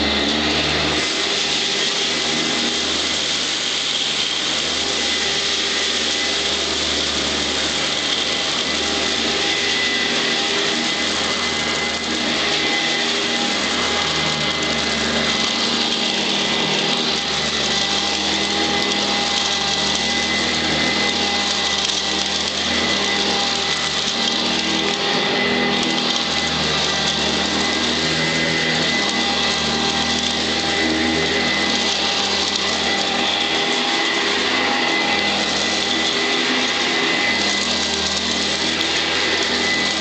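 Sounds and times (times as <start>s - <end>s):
upright vacuum cleaner running: 0.0s - 40.0s.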